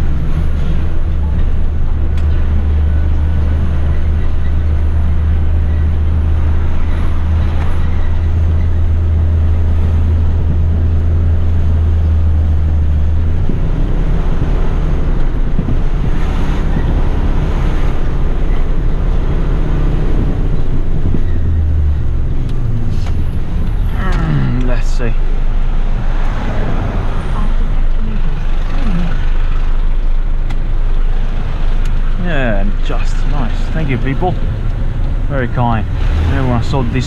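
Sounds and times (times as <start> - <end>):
road noise: 0.0 - 37.0
truck diesel engine drone: 0.0 - 37.0.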